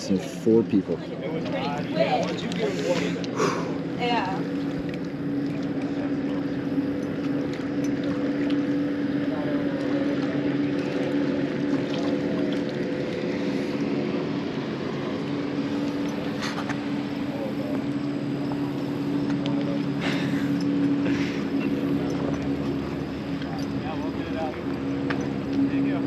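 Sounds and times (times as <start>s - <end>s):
motor humming steadily: 0.0s - 26.0s.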